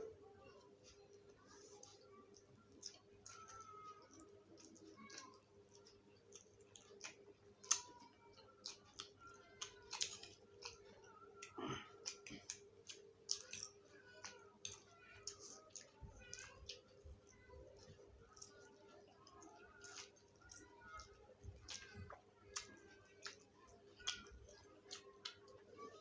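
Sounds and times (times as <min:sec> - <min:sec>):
people chewing noodles: 0:00.0 - 0:26.0.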